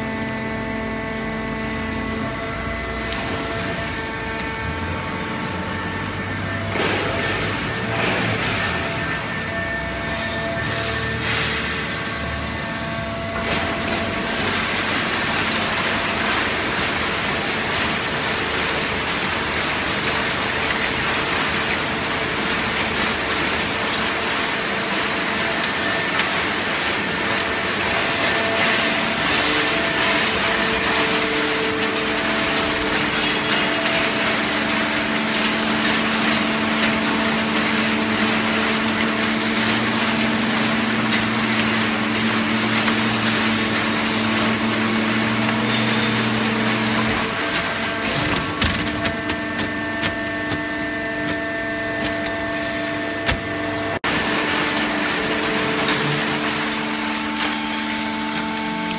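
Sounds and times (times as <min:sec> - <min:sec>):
baling press machine din: 0:00.0 - 0:58.9.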